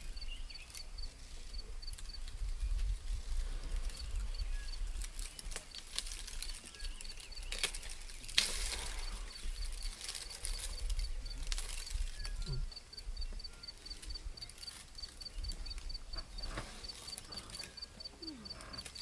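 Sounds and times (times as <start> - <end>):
branches rustling and snapping: 0.6 - 12.5, 13.9 - 17.9, 18.6 - 19.0
ticking insect call: 3.7 - 19.0.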